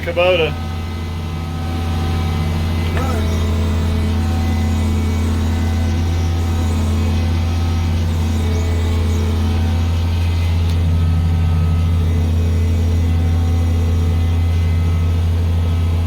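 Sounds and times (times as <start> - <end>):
farm machinery engine drone: 0.0 - 16.0.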